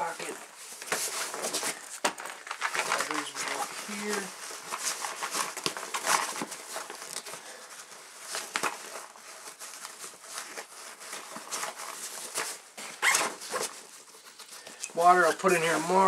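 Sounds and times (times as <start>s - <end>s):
nylon fabric rustling: 0.0s - 16.0s.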